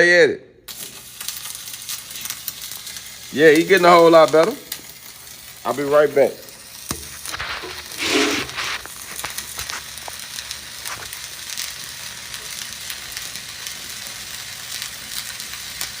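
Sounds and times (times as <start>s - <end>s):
arc welding crackling: 0.6s - 16.0s.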